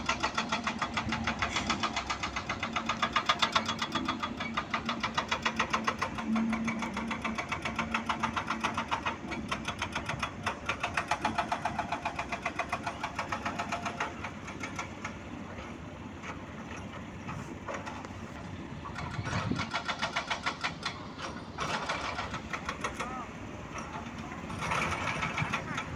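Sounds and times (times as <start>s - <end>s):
truck engine knocking: 0.0s - 25.9s.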